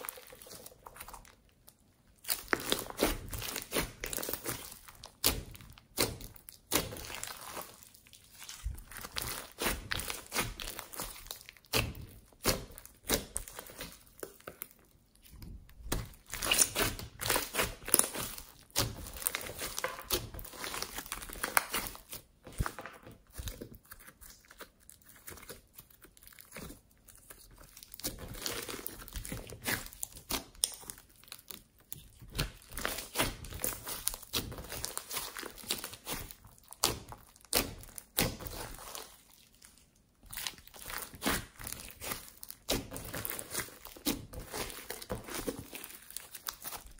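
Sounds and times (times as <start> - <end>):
slime squishing and crackling: 0.0 - 46.9.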